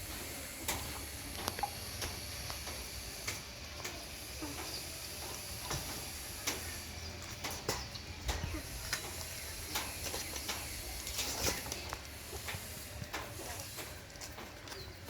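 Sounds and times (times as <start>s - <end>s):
steady hiss: 0.0s - 14.6s.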